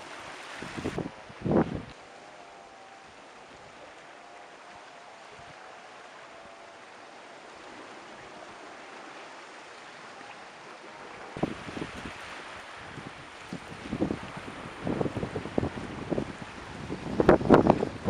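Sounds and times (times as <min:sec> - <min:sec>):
sea surf washing over rocks: 0:00.0 - 0:18.0.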